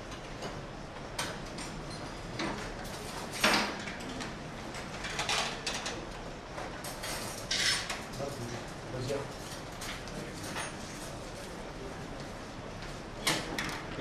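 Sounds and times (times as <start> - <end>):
room noise: 0.0 - 14.0.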